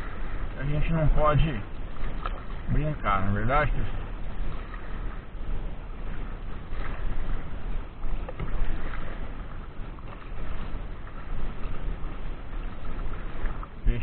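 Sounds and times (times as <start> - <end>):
water noise: 0.0 - 14.0
wind buffeting microphone: 0.0 - 14.0.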